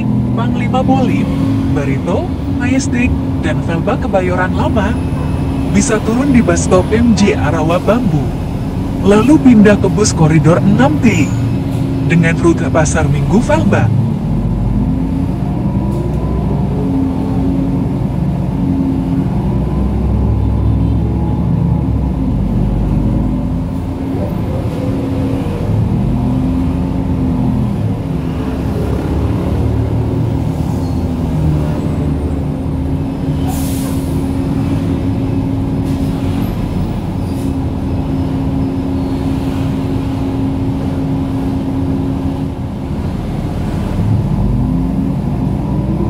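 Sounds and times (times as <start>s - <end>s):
bus engine hum: 0.0s - 46.0s.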